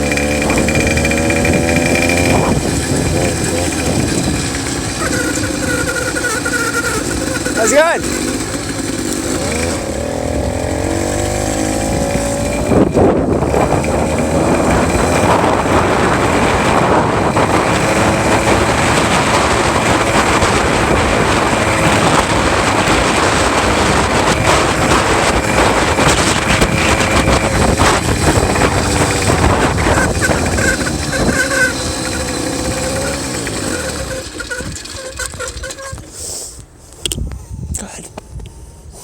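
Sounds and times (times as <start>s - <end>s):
engine knock: 0.0s - 9.9s, 11.0s - 36.1s
two-stroke engine revving: 0.0s - 36.4s.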